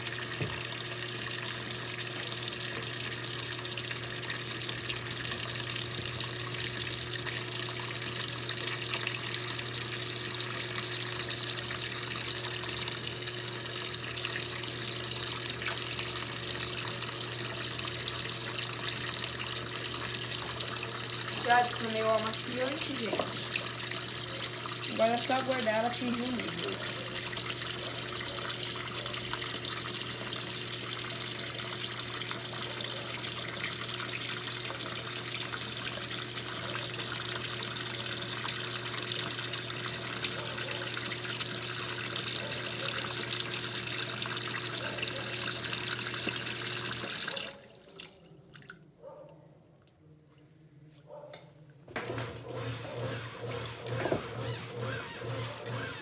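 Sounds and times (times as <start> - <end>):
water running into washing machine: 0.0 - 48.8, 52.0 - 56.0.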